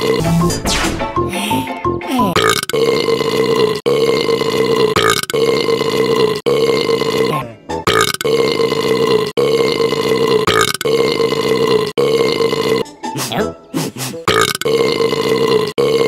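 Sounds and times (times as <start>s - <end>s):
burping sound effect: 0.0s - 0.5s, 2.2s - 16.0s.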